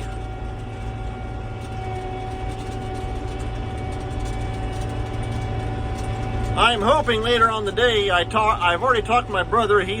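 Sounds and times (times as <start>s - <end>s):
diesel engine running: 0.0s - 10.0s
thin steady whine: 0.0s - 10.0s.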